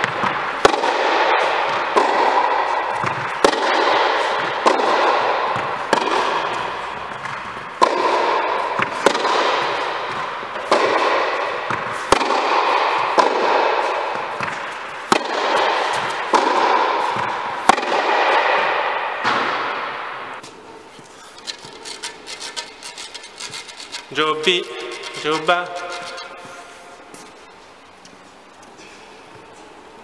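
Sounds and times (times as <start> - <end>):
loud steady rushing noise: 0.0 - 20.8, 21.4 - 28.0.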